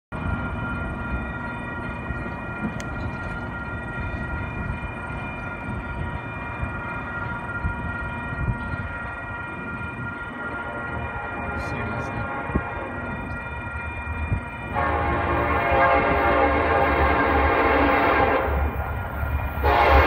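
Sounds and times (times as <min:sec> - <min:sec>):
distant freight train: 0:00.1 - 0:20.0
steady high ringing tone: 0:00.2 - 0:20.0.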